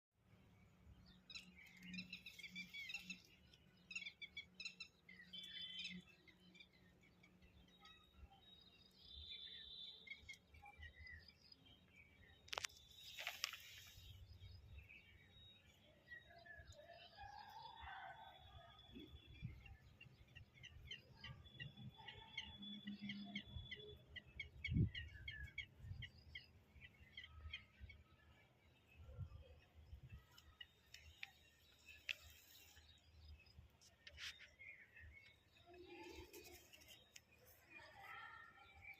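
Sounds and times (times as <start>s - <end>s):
small birds chirping: 0.4s - 18.0s, 18.6s - 38.9s.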